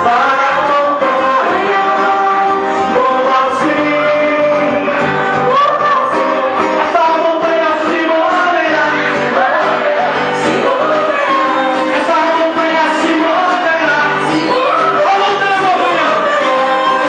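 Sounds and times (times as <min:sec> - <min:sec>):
full band playing: 0:00.0 - 0:17.0
women singing gospel: 0:00.1 - 0:15.0, 0:15.7 - 0:17.0.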